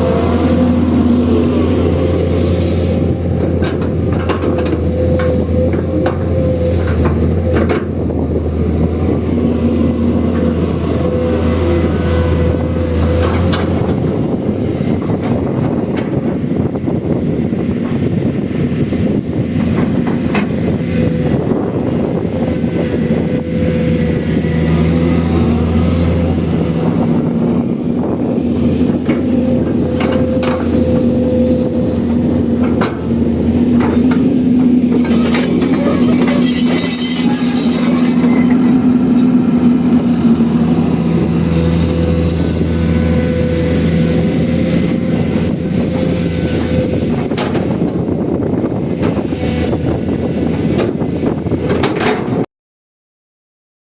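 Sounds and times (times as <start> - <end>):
excavator diesel engine running: 0.0 - 52.4.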